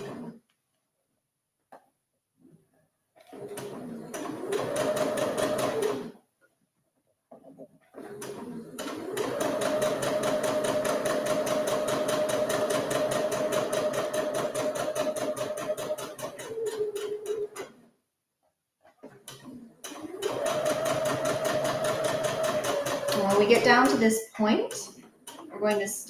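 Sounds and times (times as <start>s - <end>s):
sewing machine stitching: 0.0s - 0.4s, 2.4s - 6.2s, 7.4s - 17.9s, 18.8s - 26.0s.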